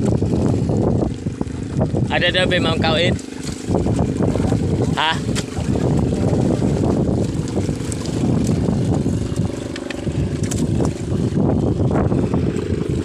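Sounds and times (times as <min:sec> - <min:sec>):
line knocking against hull: 0:00.0 - 0:13.0
wind buffeting microphone: 0:00.0 - 0:13.0.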